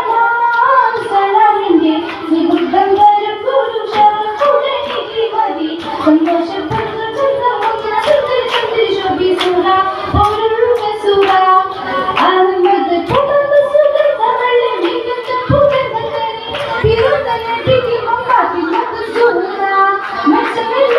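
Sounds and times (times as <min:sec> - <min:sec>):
hand claps: 0:00.0 - 0:20.9
woman singing into a microphone: 0:00.0 - 0:20.9.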